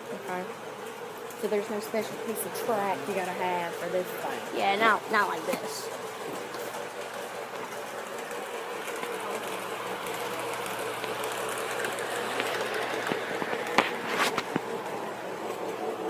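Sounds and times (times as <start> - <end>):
model train motor whirring: 0.3 - 16.0.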